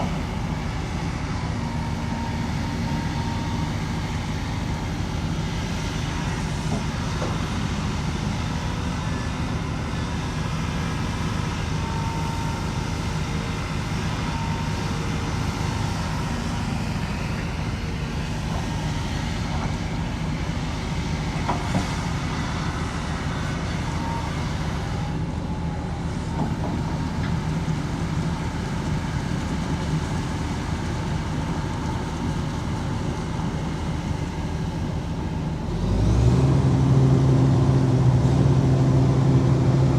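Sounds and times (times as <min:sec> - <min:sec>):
heavy diesel machinery rumbling: 0:00.0 - 0:39.9.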